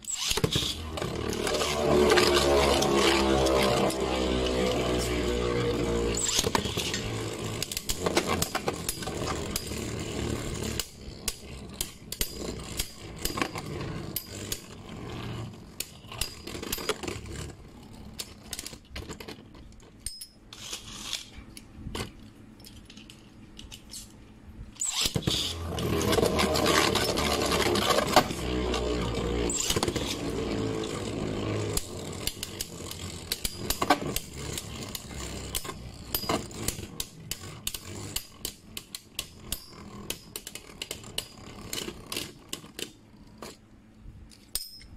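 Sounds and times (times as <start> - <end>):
spinning tops whirring: 0.0 - 18.8, 24.8 - 43.4.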